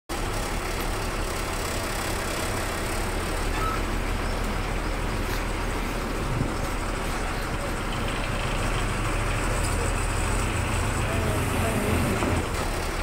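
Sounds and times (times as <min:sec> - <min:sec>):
engine idling: 0:00.1 - 0:13.0.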